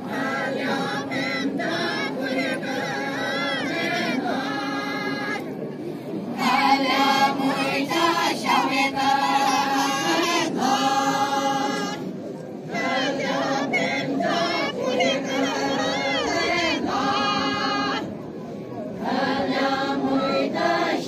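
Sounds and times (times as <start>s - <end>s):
women singing unaccompanied: 0.0s - 5.5s, 6.4s - 18.2s, 19.0s - 21.0s.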